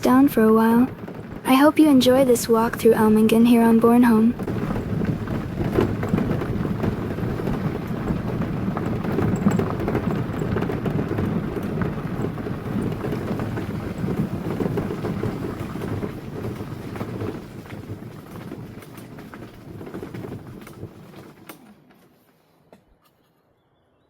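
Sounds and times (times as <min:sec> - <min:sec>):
tyres crunching on gravel: 0:00.0 - 0:22.2.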